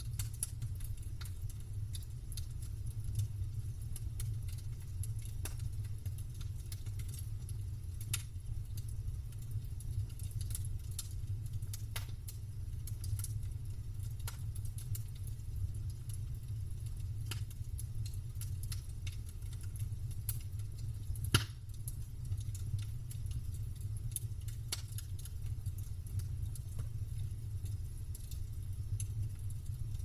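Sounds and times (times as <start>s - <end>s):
campfire crackling and popping: 0.0s - 30.0s
low steady rumble: 0.0s - 30.0s.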